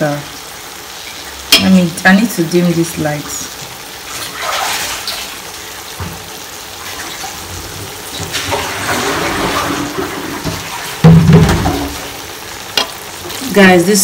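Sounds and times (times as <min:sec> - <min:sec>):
sauce simmering in a frying pan: 0:00.0 - 0:14.0.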